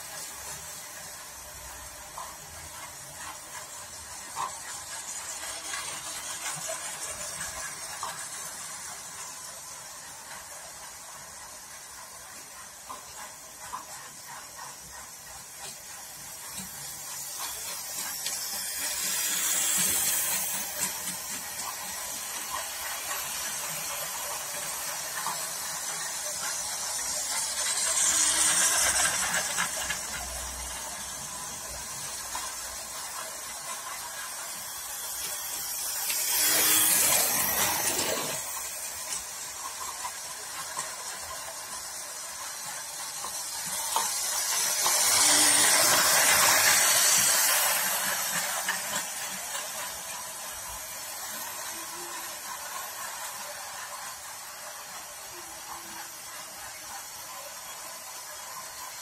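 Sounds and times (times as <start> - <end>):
toy train motor whirring: 0.0 - 59.0.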